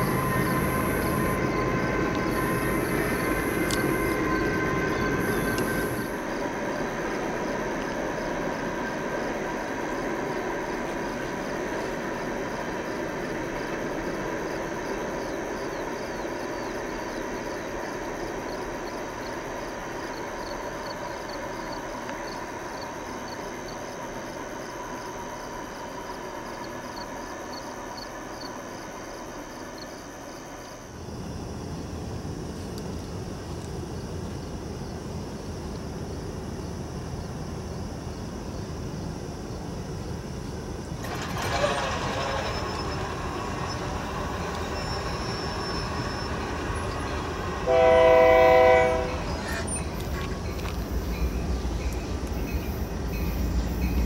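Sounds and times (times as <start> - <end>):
approaching train rumble: 0.0 - 54.0
freight train passing: 0.0 - 54.0.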